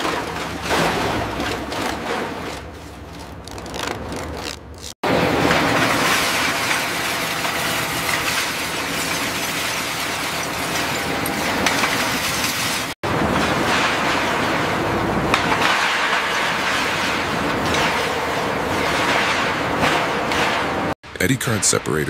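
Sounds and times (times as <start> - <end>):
conveyors moving metal scrap: 0.0 - 3.5, 4.7 - 22.0
heavy machinery noise: 0.0 - 22.0.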